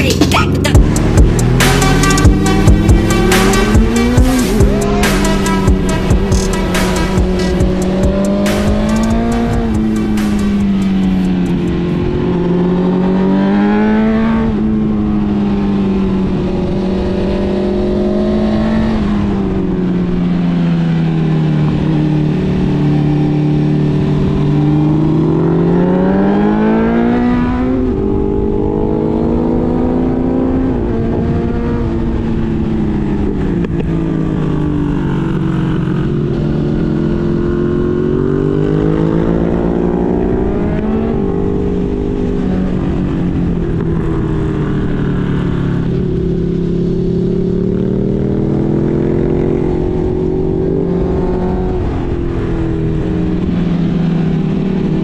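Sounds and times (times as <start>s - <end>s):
motorcycle engine shifting gears: 0.1s - 55.0s.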